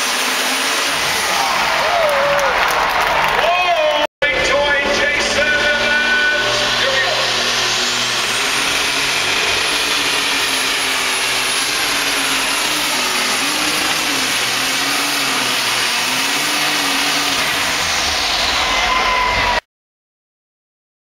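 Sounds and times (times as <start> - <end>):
tractor engine at full power: 0.0 - 19.6.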